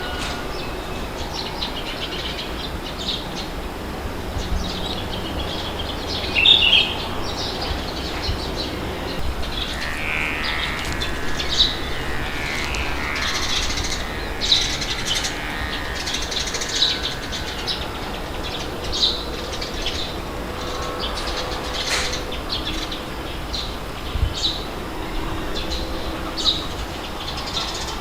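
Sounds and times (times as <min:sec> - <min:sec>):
birds chirping: 0:00.0 - 0:28.0
wind rumble: 0:00.0 - 0:28.0.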